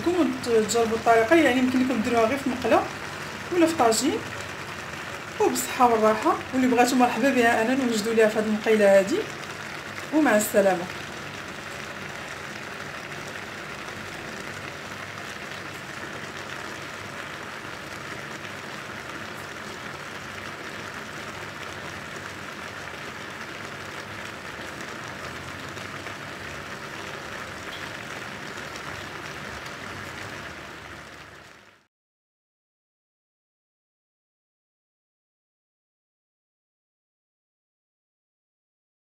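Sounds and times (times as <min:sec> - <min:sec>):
food sizzling in frying pan: 0:00.0 - 0:31.9.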